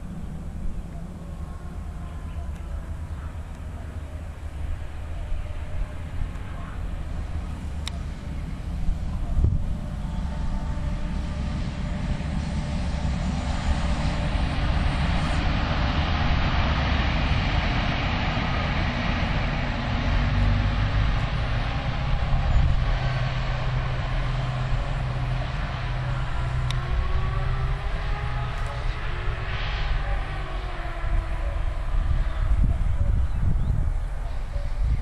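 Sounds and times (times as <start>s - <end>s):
train wheels rushing on rails: 0.0s - 32.9s
train engine drone: 0.0s - 35.0s.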